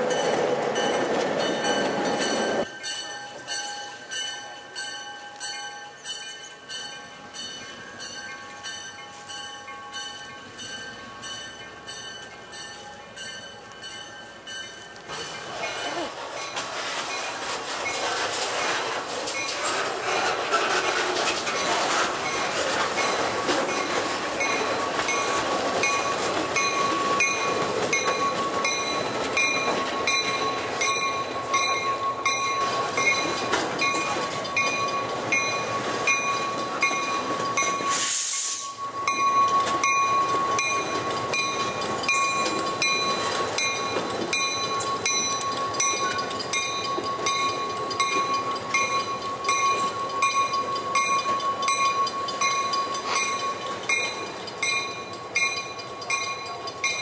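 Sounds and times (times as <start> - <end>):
train wheels clicking over rail joints: 0.0 - 57.0.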